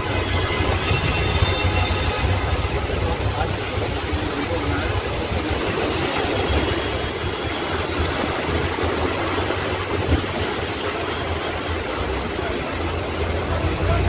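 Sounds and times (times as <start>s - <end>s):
churning floodwater rushing: 0.0s - 14.0s.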